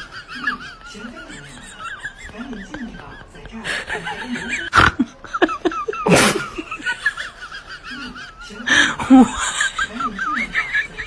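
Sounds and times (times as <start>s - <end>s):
person laughing: 0.0s - 11.0s.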